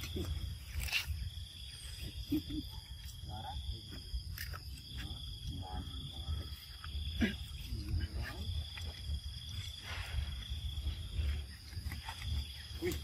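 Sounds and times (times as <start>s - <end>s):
monkeys crunching cucumber: 0.0s - 9.8s, 11.1s - 13.0s.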